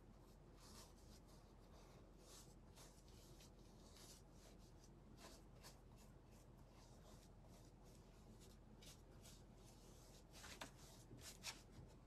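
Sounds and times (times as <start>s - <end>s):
paintbrush swishing on surface: 0.1s - 12.0s.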